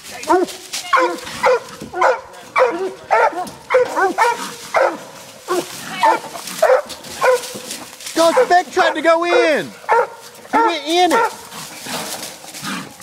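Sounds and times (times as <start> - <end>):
hounds barking: 0.2 - 13.0.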